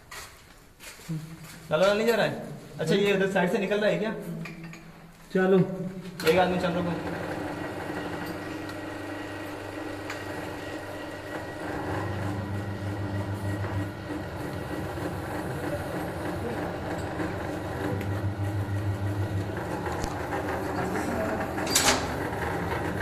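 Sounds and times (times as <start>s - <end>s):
low mechanical hum: 4.2s - 23.0s.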